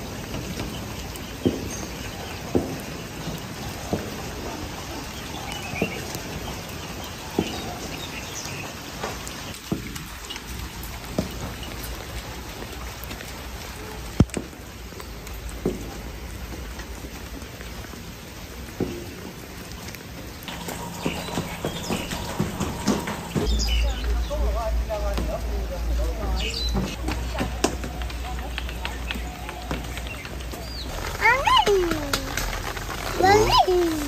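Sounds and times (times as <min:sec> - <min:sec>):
heavy raindrops striking: 0:00.0 - 0:34.0
steady rain: 0:00.0 - 0:34.0.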